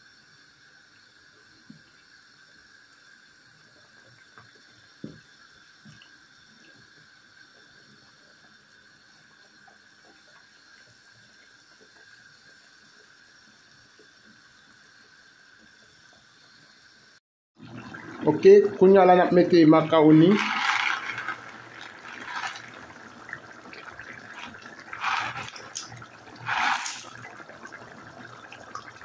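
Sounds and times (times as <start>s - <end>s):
soup simmering with bubbling pops: 0.2s - 16.9s, 17.6s - 29.0s.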